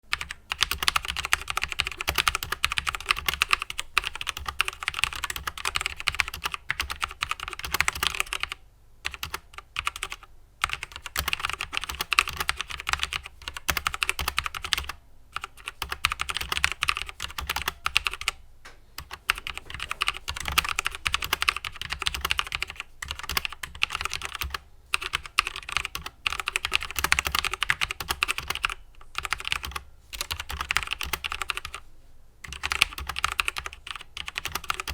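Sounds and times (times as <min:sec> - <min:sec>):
mechanical keyboard typing: 0:00.1 - 0:18.4, 0:19.0 - 0:31.8, 0:32.4 - 0:34.9.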